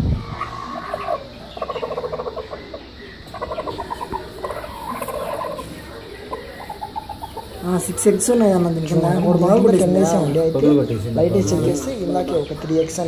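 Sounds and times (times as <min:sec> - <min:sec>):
hen growling clucks: 0:00.0 - 0:12.7.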